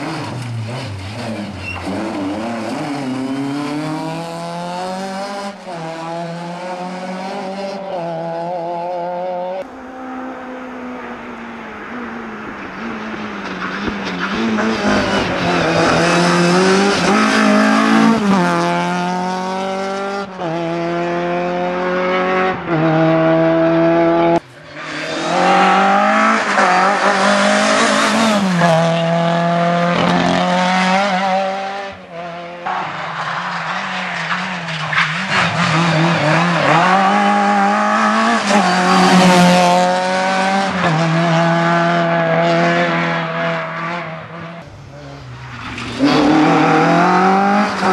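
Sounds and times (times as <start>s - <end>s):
car engine at full throttle: 0.0s - 47.9s.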